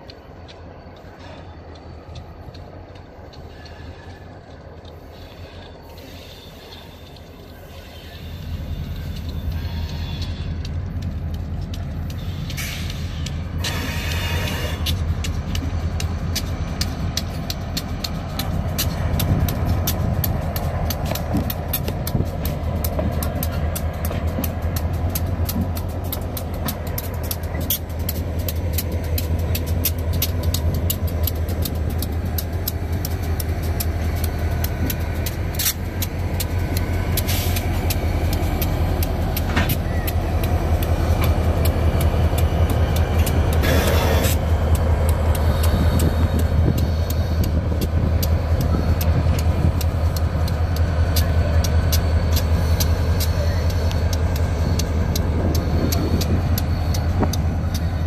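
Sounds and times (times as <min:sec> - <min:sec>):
diesel locomotives rumbling past: 0:00.0 - 0:58.0.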